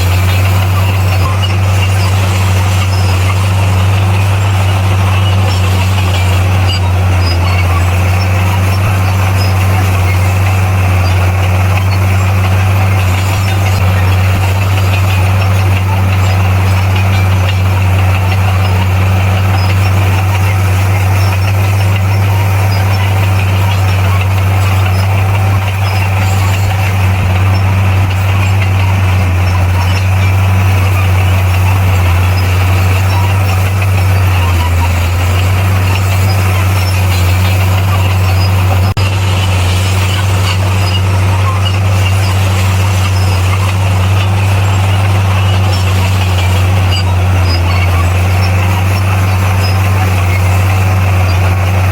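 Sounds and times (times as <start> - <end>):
bulldozer diesel engine: 0.0 - 51.9.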